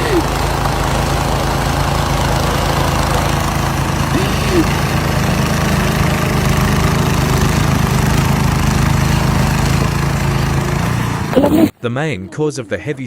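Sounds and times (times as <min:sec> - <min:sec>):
engine running steadily: 0:00.0 - 0:11.7.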